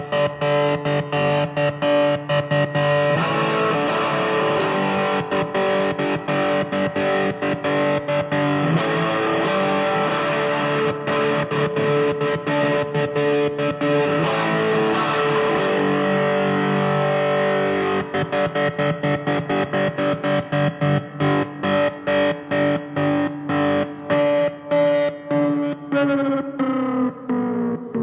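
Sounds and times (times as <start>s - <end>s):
stuttering distorted electric guitar: 0.0s - 28.0s.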